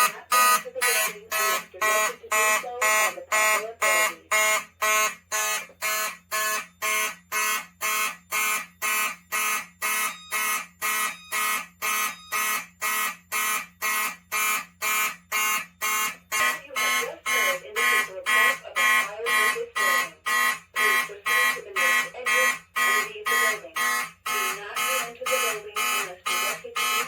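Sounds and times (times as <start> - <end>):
fire alarm horn pulsing: 0.0 - 27.0.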